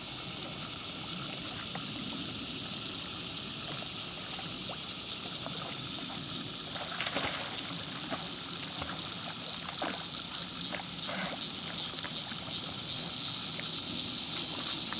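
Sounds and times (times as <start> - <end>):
steady high hiss: 0.0 - 14.9
dog swimming splashing water: 0.2 - 14.9.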